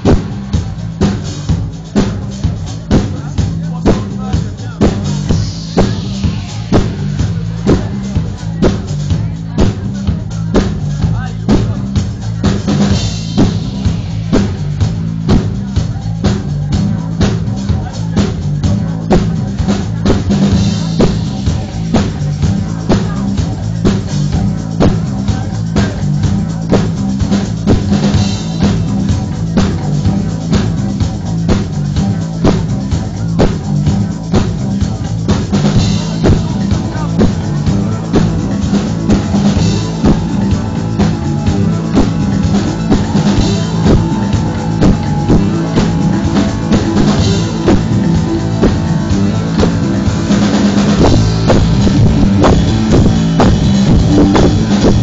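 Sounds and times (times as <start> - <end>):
amplified electric guitars: 0.0 - 55.0
drum kit beat: 0.0 - 55.0.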